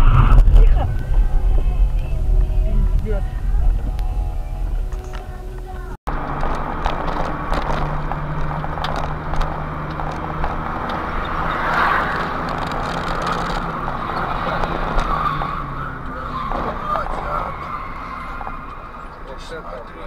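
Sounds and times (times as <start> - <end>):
car engine hum: 0.0 - 20.0
tyre and road noise: 0.0 - 20.0
tyres screeching: 0.0 - 20.0.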